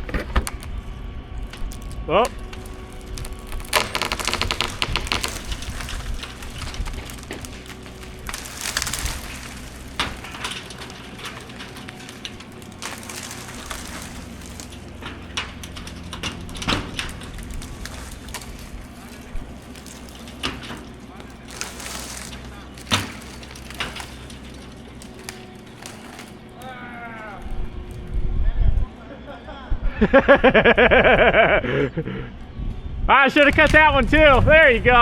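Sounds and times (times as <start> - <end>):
rustling: 0.0 - 28.8, 33.3 - 35.0
wood cracking and snapping: 0.0 - 29.0, 33.2 - 35.0.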